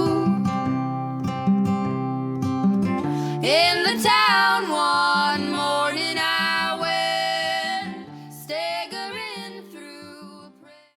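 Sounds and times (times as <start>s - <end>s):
acoustic guitar: 0.0s - 11.0s.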